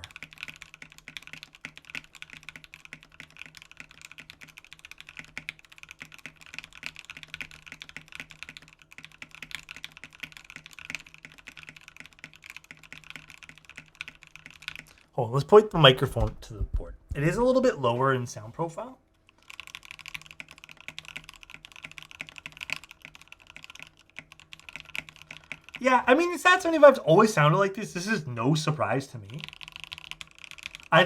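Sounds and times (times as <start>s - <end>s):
mechanical keyboard typing: 0.0s - 17.7s, 19.2s - 31.0s.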